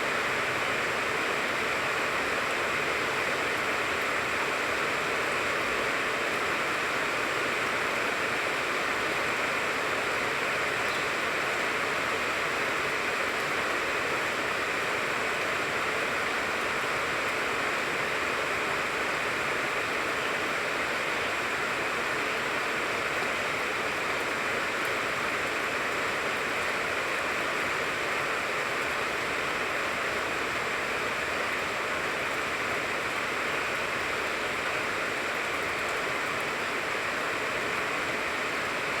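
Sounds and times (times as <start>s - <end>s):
rain falling on leaves: 0.0s - 39.0s.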